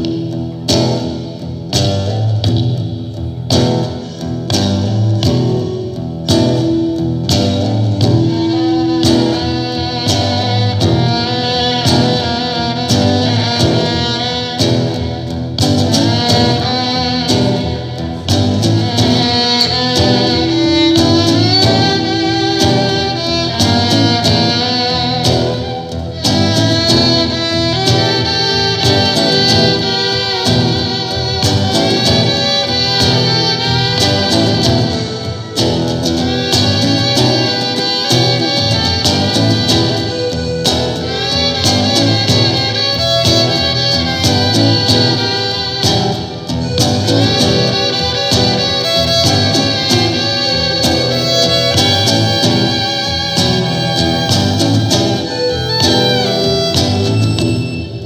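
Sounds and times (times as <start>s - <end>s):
fiddle melody: 0.0s - 58.0s
guitar strummed: 0.0s - 58.0s
wind instrument playing: 5.5s - 58.0s.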